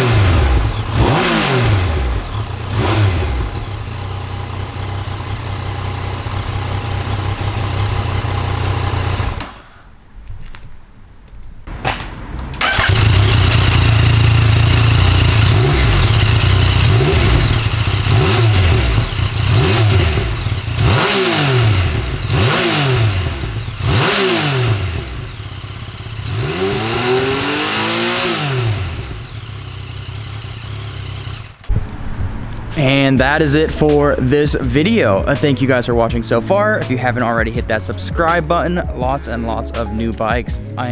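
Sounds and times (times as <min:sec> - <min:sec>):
motorcycle engine idling and revving: 0:00.0 - 0:09.6, 0:11.7 - 0:40.9.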